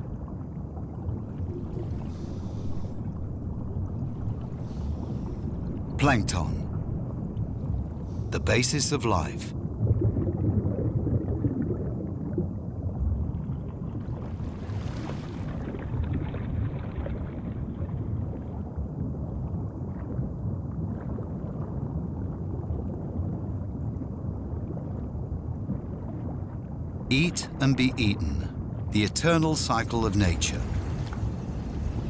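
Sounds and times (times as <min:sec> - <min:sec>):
low underwater rumble: 0:00.0 - 0:08.3, 0:09.5 - 0:27.1.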